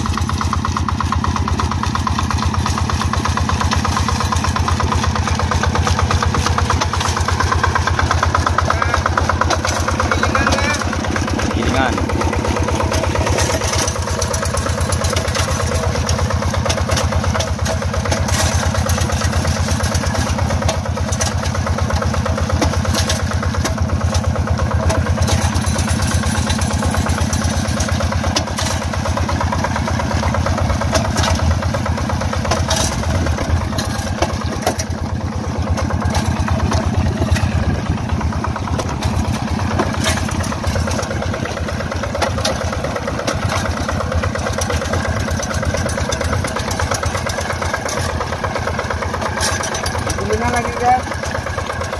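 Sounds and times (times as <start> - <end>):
diesel engine chugging: 0.0 - 51.9.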